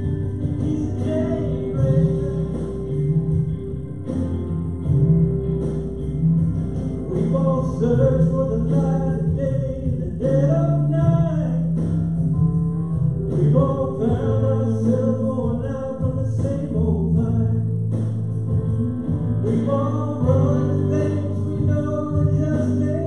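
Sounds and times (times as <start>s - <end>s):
person singing: 0.0s - 3.9s, 7.0s - 12.0s, 12.9s - 23.0s
guitar: 0.0s - 23.0s
steady bass line: 0.0s - 23.0s.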